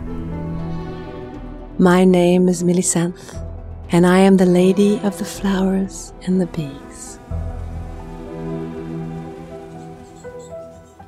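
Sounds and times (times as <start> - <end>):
film music with held notes: 0.0 - 11.0.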